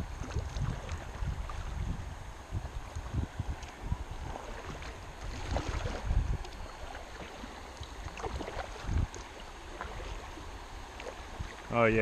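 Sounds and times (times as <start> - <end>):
kayak paddles splashing: 0.0 - 12.0
river water rushing: 0.0 - 12.0.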